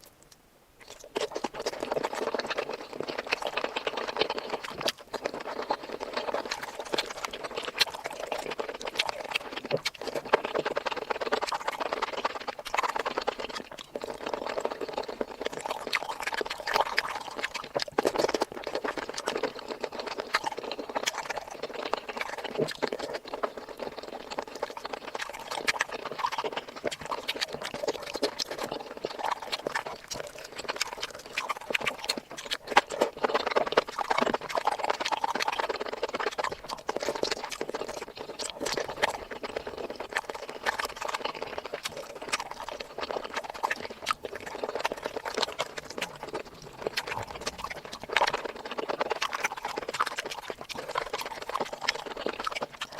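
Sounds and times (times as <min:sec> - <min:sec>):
chewing and mouth smacking: 0:00.0 - 0:52.9.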